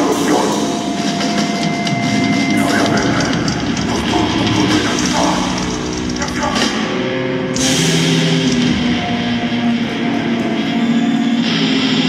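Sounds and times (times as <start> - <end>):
metal band playing live: 0.0 - 12.0.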